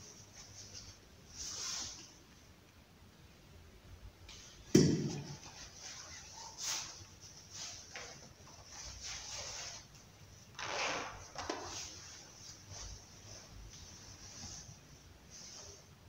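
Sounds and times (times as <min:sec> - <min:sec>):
soft rustles of handling vessels: 0:00.0 - 0:02.8, 0:04.2 - 0:16.0.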